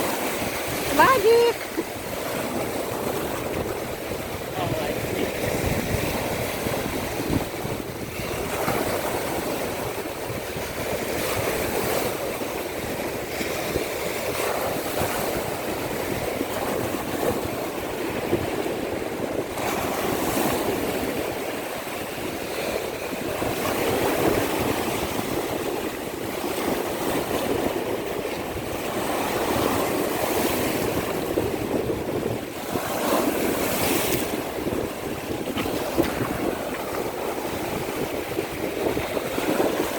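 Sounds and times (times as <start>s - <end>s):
surf breaking on shore: 0.0s - 39.9s.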